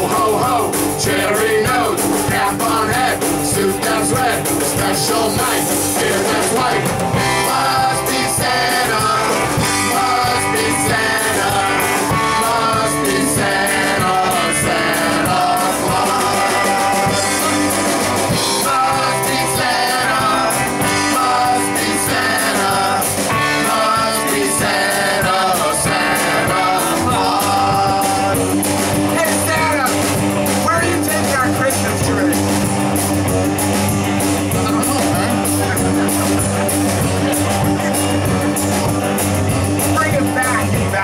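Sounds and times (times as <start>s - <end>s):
rock and roll band playing: 0.0s - 41.0s.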